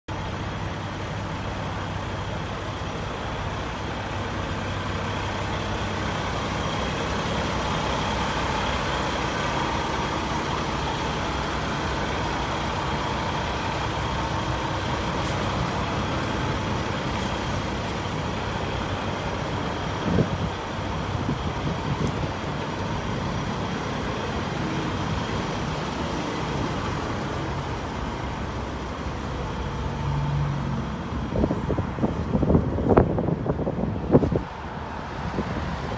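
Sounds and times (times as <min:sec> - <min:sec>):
diesel truck engine idling: 0:00.1 - 0:35.9.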